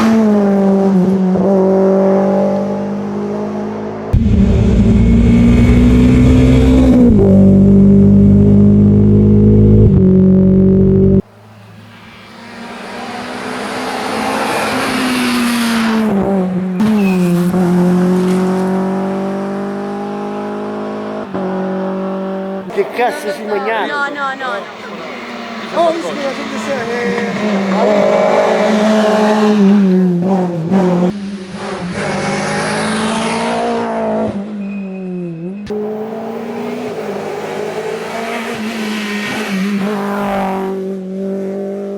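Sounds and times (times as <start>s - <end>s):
rally car passing at speed: 0.0s - 35.1s, 35.7s - 41.9s.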